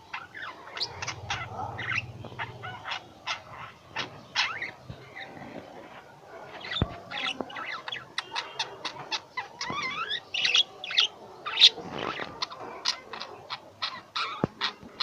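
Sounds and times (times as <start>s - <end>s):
lovebirds chattering: 0.0s - 15.0s.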